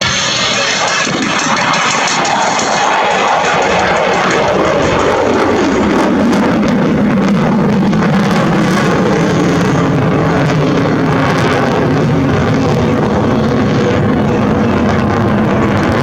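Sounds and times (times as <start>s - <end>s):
loud jet engine noise: 0.0s - 16.0s.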